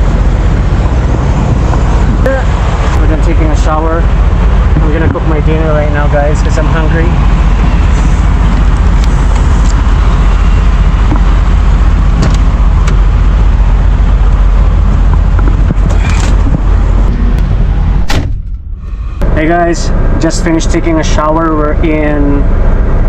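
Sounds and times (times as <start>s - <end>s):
motor vehicle rumble and road noise: 0.0s - 23.0s.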